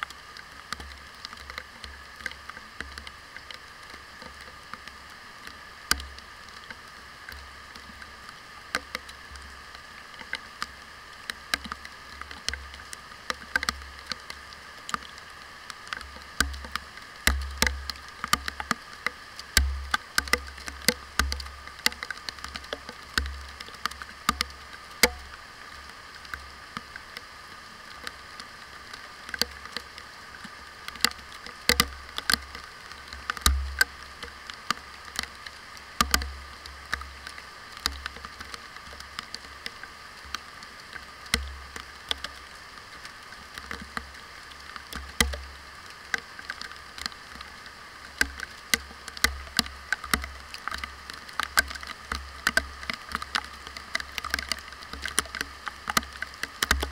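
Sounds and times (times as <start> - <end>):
muffled rain hiss: 0.0 - 56.9
raindrops ticking on a case: 0.0 - 56.9.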